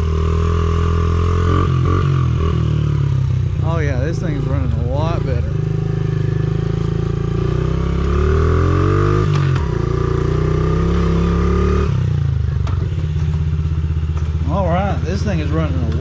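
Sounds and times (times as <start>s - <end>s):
dirt bike engine revving: 0.0s - 12.4s, 13.3s - 16.0s.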